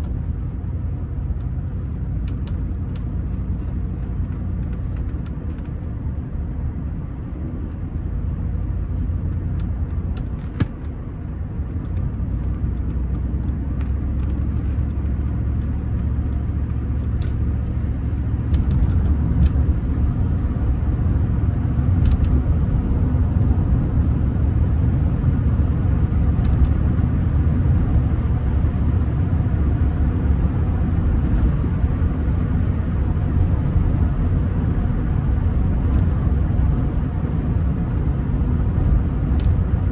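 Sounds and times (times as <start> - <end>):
car engine and road noise rumble: 0.0 - 39.9.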